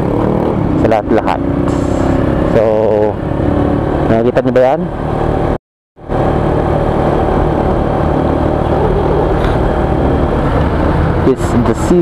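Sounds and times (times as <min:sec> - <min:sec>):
motorcycle engine hum: 0:00.0 - 0:12.0
road and wind noise: 0:00.0 - 0:12.0.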